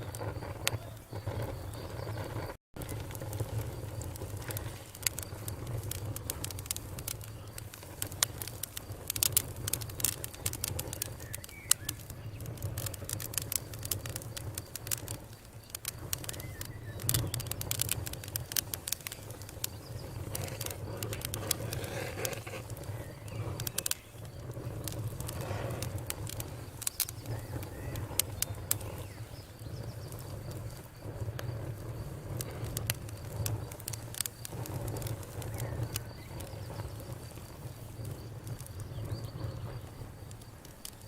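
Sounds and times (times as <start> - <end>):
campfire crackling: 0.0 - 41.0
low rumble of flames: 0.0 - 41.0.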